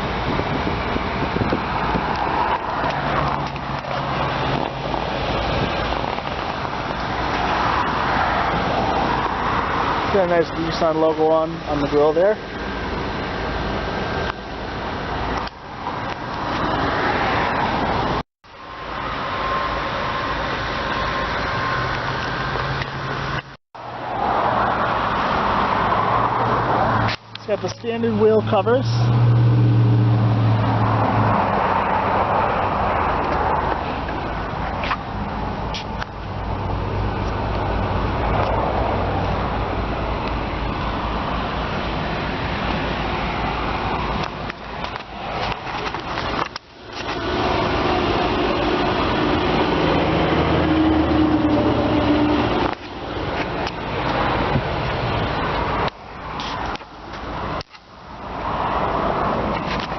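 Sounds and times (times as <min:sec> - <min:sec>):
car engine idling: 0:00.0 - 0:24.1, 0:32.1 - 0:59.9
rushing noise: 0:00.0 - 0:59.9.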